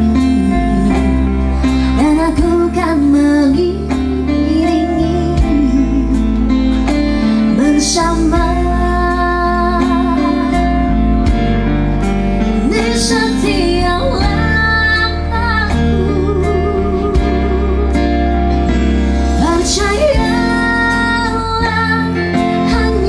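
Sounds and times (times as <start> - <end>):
woman singing into a microphone: 0.0 - 11.4, 12.4 - 18.4, 19.2 - 23.0
live band with guitar: 0.0 - 23.0.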